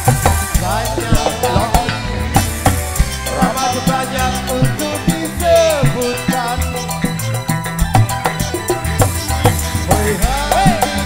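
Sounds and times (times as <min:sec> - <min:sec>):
drum kit beat: 0:00.0 - 0:11.0
hand drums: 0:00.0 - 0:11.0
melody line: 0:00.0 - 0:11.0.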